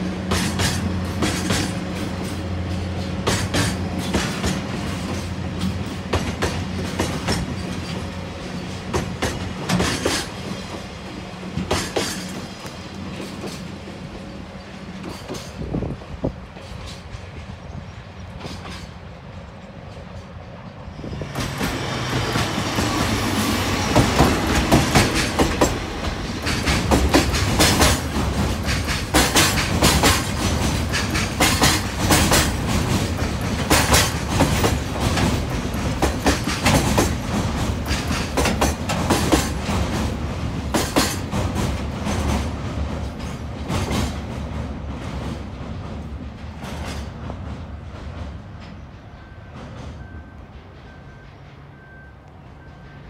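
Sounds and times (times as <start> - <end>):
diesel locomotive engine: 0.0 - 53.0
train wheels clacking over rail joints: 0.0 - 53.0.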